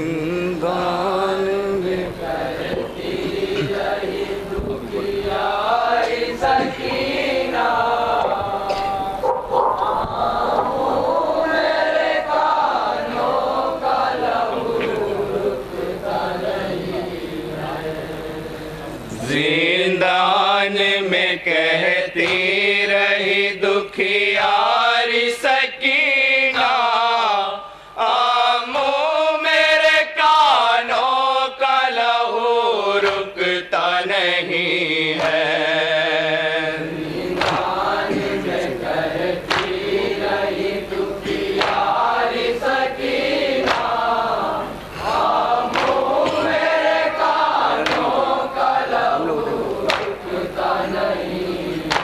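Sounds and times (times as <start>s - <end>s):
chorus of many voices: 0.0s - 52.0s
men chanting through microphone: 0.0s - 52.0s.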